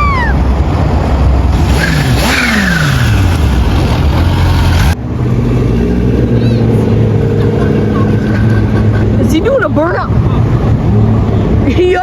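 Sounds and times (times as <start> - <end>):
car engines revving: 0.0 - 12.0
steady engine hum: 0.0 - 12.0.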